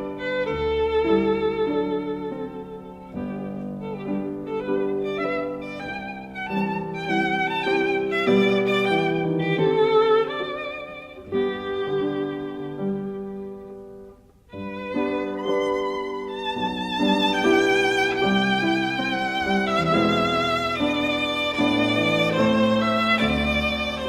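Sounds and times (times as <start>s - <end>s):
violin playing slow notes: 0.0s - 24.0s.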